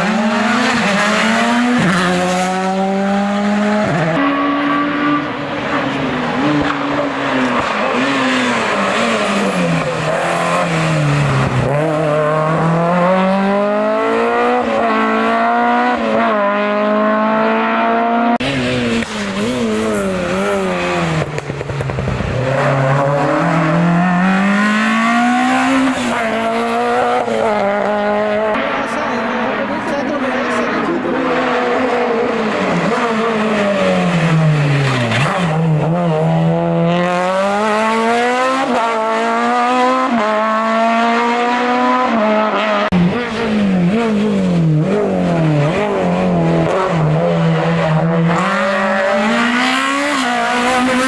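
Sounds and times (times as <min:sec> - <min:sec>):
race car engine at full throttle: 0:00.0 - 0:51.0.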